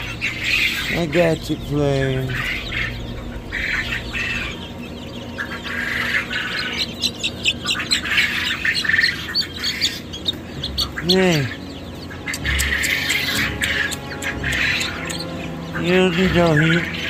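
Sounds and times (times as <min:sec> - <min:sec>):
poultry squawking: 0:00.0 - 0:17.0.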